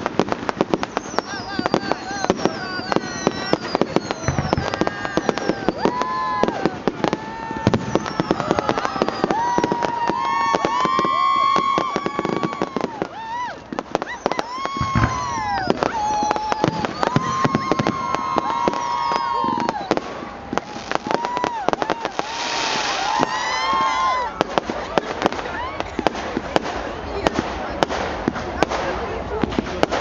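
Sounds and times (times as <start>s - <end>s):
deep fireworks booms: 0.0s - 30.0s
fireworks crackling bangs: 0.0s - 30.0s
whistling fireworks: 0.0s - 30.0s.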